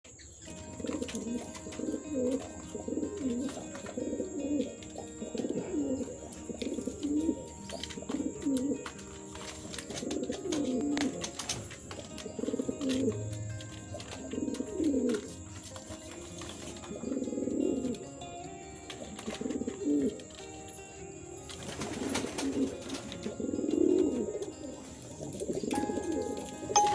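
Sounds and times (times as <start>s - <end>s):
pigeons cooing: 0.2s - 26.7s.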